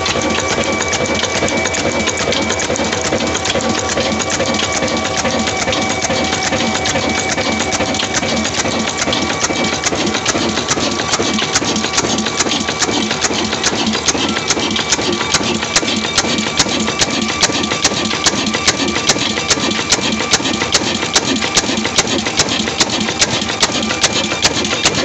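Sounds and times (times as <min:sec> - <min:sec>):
diesel engine running: 0:00.0 - 0:25.0
flour mill clattering: 0:00.0 - 0:25.0
regular engine knock: 0:00.0 - 0:25.0.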